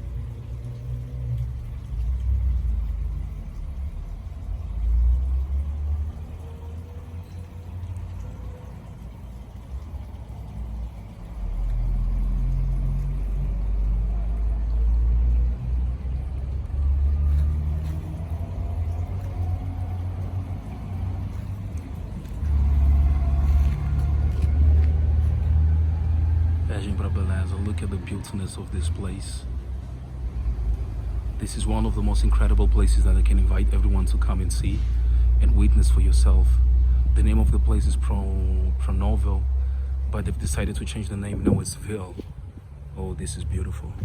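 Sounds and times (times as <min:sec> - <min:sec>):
faint drifting tone: 0:00.0 - 0:37.4
low uneven rumble: 0:00.0 - 0:44.0.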